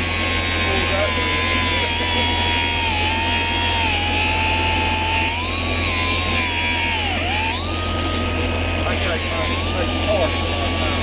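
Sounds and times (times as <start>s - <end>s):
machine whining: 0.0s - 11.0s.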